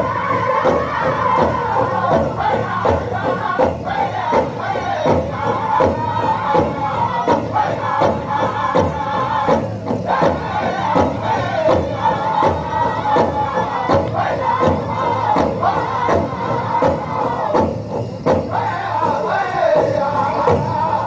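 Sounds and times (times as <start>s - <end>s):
big drum beat: 0.0s - 21.0s
group singing in unison: 0.0s - 21.0s.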